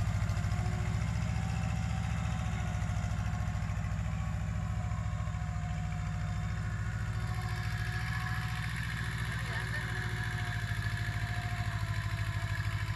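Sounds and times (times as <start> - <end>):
tractor diesel engine chugging: 0.0 - 12.9.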